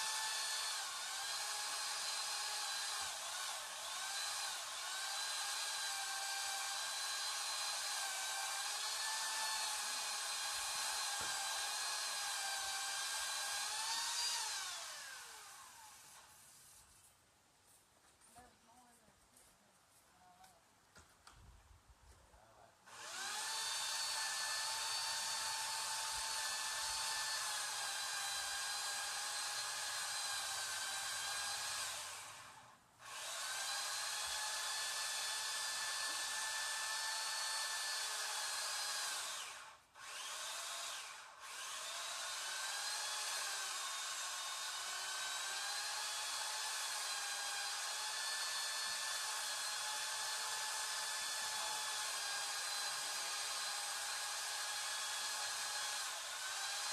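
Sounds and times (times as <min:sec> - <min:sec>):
power tool motor whining: 0:00.0 - 0:16.4, 0:22.9 - 0:56.9.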